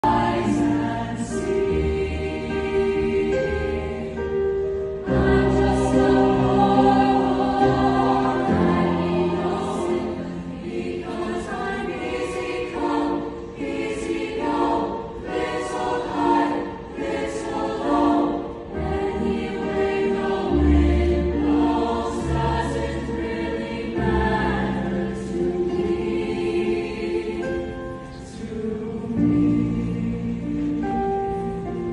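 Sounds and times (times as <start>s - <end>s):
choir singing: 0.0s - 31.9s.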